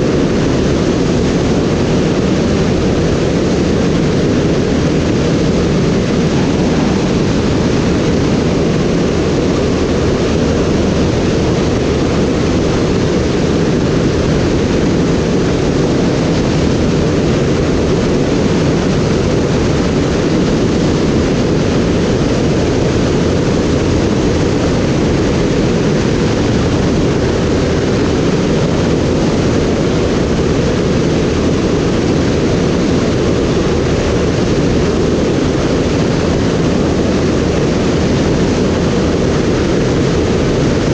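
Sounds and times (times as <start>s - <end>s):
aircraft engine drone: 0.0s - 40.9s
rushing air: 0.0s - 40.9s.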